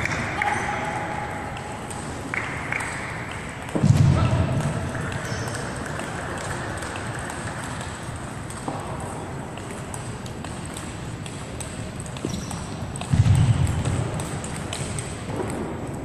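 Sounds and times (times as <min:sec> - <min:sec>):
table tennis balls clicking: 0:00.0 - 0:03.8, 0:04.4 - 0:16.0
sports hall hum: 0:00.0 - 0:16.0.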